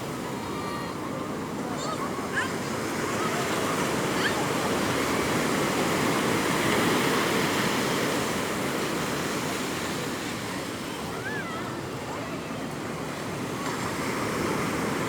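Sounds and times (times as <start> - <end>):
sea waves rushing onto shore: 0.0 - 15.0.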